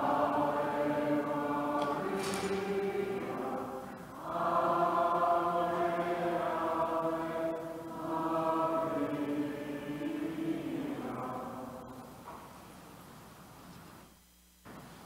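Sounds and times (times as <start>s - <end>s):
congregation singing a hymn: 0.0s - 12.4s.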